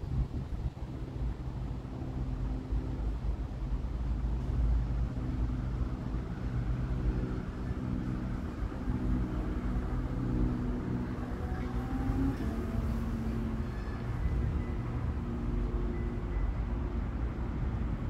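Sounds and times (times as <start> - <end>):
vehicle engines rumbling: 0.0 - 18.0.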